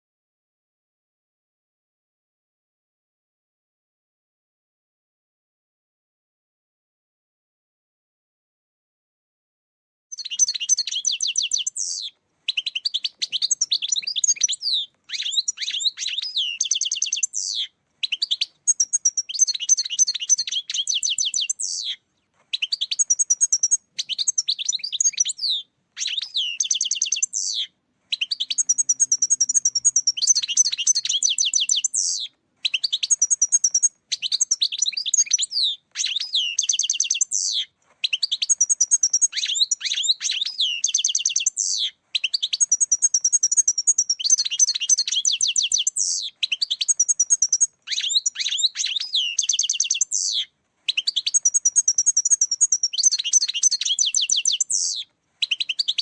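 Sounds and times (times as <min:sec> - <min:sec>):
finch twittering song: 0:10.1 - 0:56.0.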